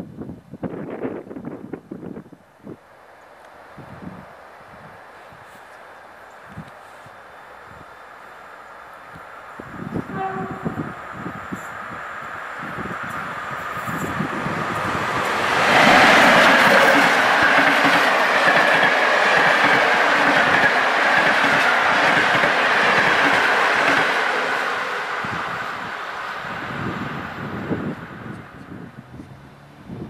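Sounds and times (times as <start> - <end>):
passenger train passing: 1.0 - 30.0.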